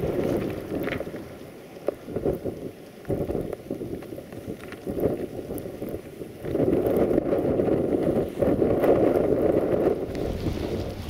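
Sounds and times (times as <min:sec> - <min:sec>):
blizzard wind buffeting microphone: 0:00.0 - 0:11.0.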